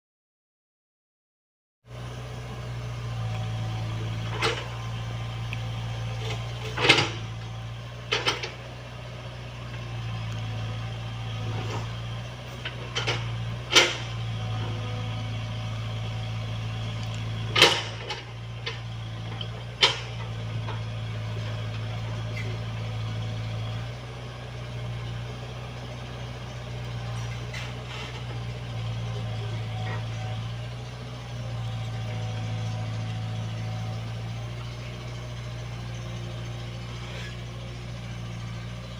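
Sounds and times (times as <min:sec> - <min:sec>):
excavator diesel engine running: 0:01.9 - 0:38.9.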